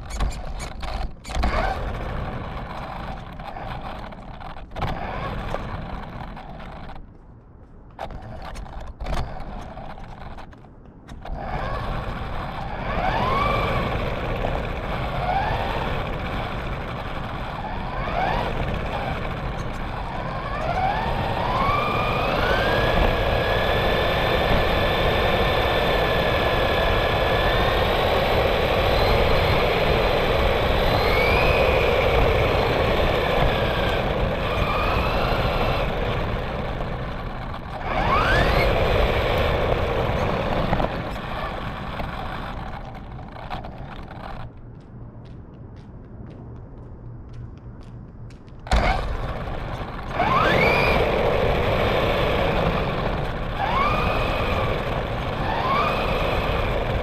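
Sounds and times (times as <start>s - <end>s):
rc car motor whining: 0.0s - 7.0s, 11.1s - 44.5s, 48.7s - 57.0s
tyres rolling over asphalt: 0.0s - 47.2s, 48.0s - 57.0s.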